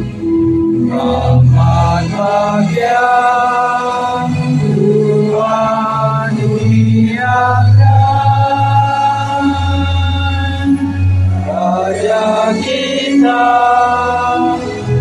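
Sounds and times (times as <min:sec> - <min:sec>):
choir singing long held notes: 0:00.0 - 0:15.0.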